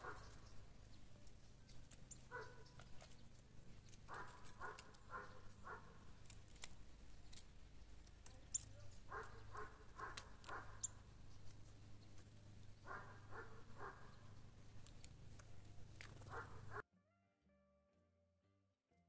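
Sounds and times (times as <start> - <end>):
high ticks and chirps: 0.0 - 16.8.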